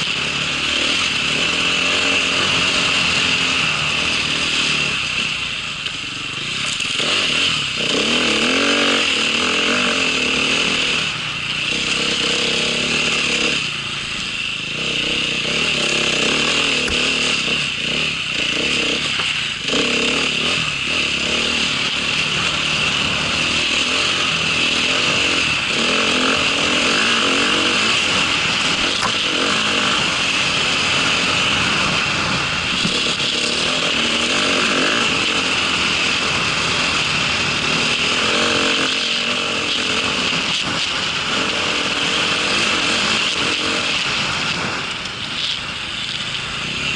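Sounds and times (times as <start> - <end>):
small vehicle engine running: 0.0 - 46.9.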